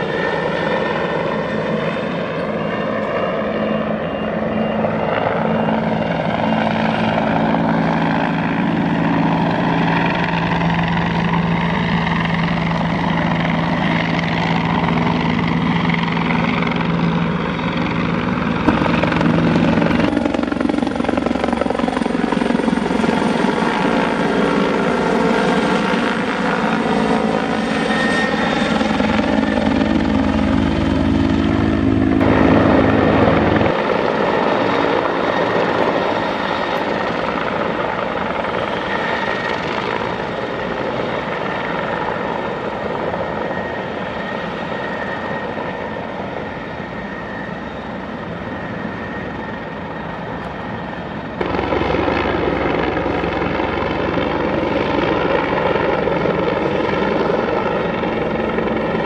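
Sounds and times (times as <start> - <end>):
helicopter flying past overhead: 0.0 - 59.0.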